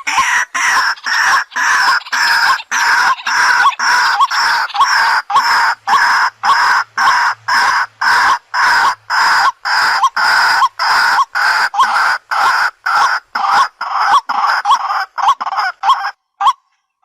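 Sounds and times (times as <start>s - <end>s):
bird harsh repeated calls: 0.0s - 17.0s.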